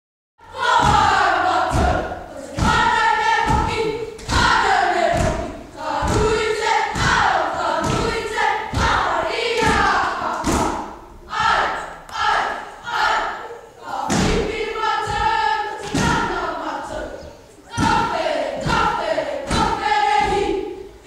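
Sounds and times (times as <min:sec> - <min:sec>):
group chanting and shouting: 0:00.4 - 0:21.0.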